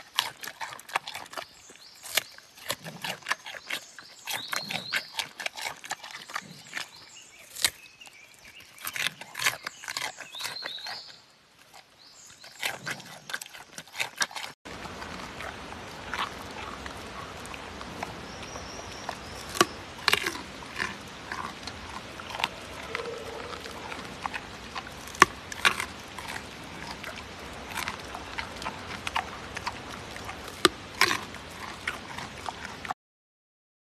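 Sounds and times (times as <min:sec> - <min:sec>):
panda chewing a carrot: 0:00.0 - 0:07.9, 0:11.7 - 0:33.0.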